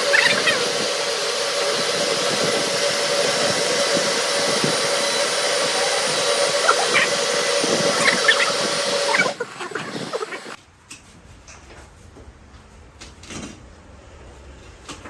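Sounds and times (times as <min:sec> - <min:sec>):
fan whooshing with hum: 0:00.0 - 0:15.0.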